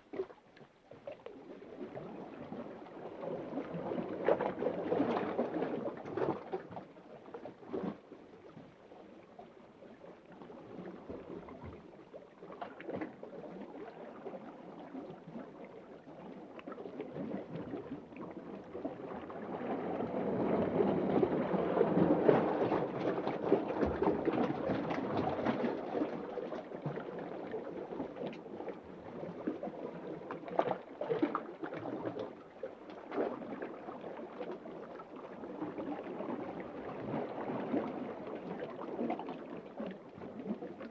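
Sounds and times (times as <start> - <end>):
underwater moving water: 0.0 - 40.9.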